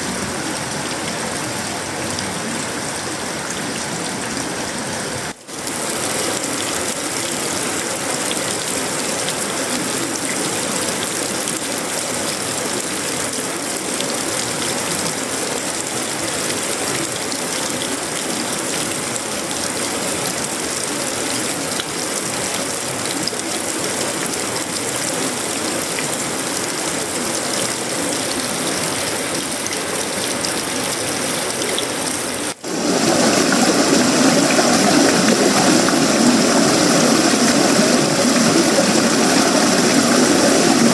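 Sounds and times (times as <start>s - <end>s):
heavy rain on metal roofing: 0.0s - 40.9s.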